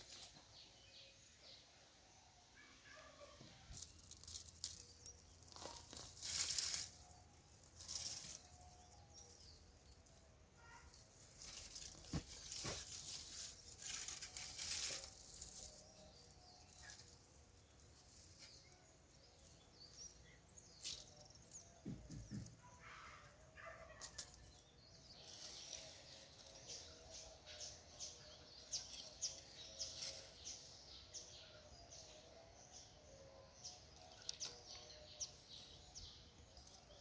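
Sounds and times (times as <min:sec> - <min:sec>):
soil and plants rustling and scraping: 0:00.0 - 0:01.0, 0:03.2 - 0:37.0.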